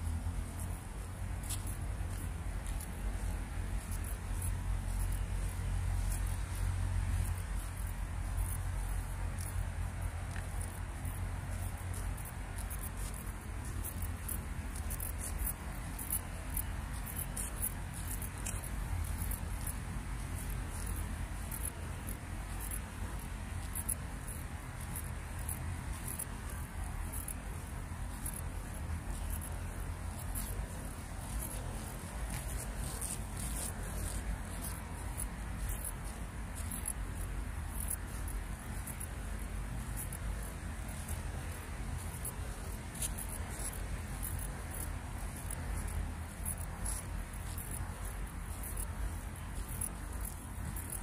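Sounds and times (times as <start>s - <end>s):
insects chirping: 0.0s - 51.0s.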